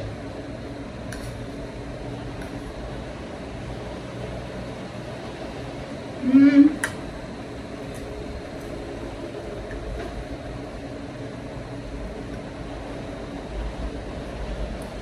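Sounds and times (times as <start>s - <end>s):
room noise hum and hiss: 0.0s - 15.0s.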